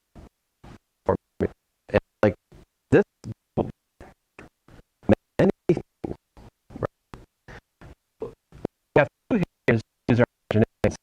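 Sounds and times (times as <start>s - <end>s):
person lecturing in fragments: 0.7s - 11.0s.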